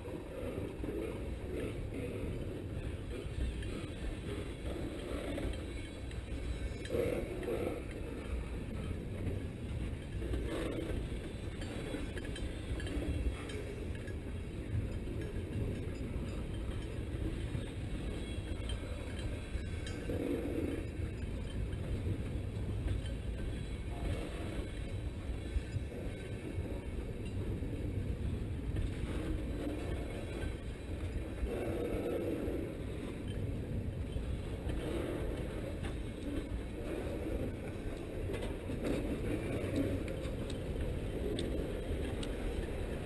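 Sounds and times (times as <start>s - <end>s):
train cars rumbling on rails: 0.0s - 43.0s.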